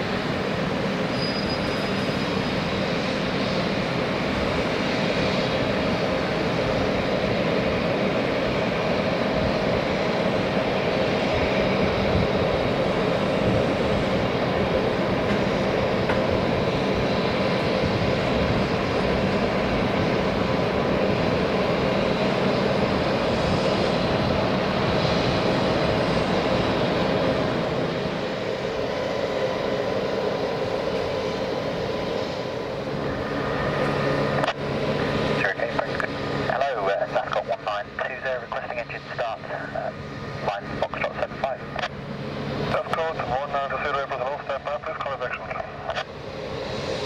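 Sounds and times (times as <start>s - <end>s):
jet turbine whine: 0.0s - 47.0s.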